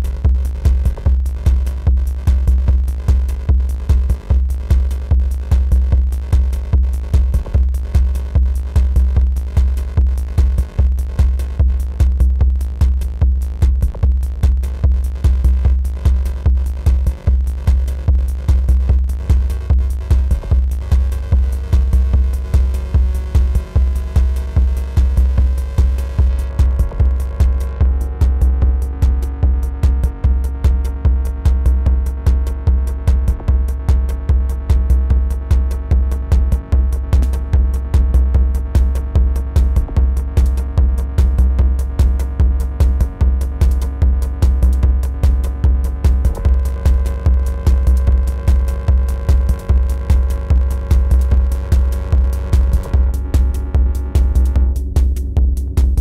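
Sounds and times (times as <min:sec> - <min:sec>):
sharp percussion ticks: 0:00.0 - 0:56.0
techno kick drum: 0:00.0 - 0:56.0.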